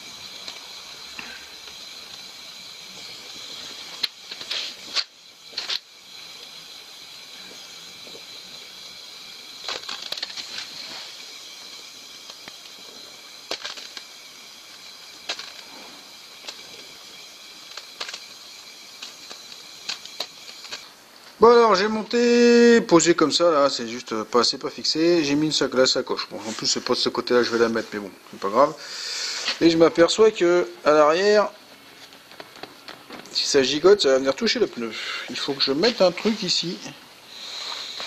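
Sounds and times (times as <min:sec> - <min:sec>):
welding torch hissing: 0:00.0 - 0:38.0.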